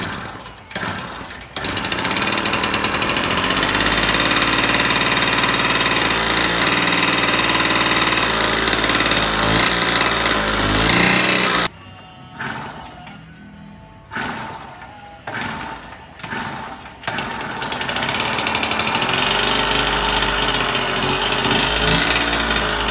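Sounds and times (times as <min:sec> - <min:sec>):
two-stroke engine running: 0:00.0 - 0:11.7, 0:12.3 - 0:13.2, 0:14.1 - 0:22.9.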